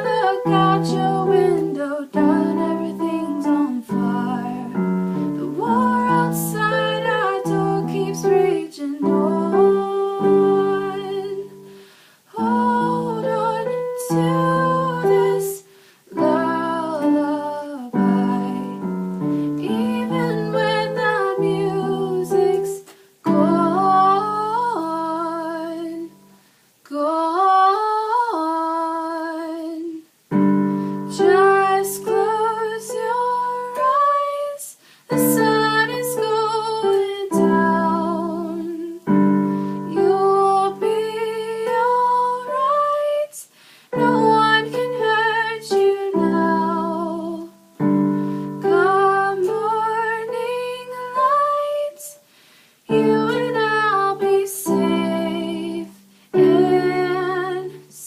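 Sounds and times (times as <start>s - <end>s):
woman singing wordless melody: 0.0s - 58.0s.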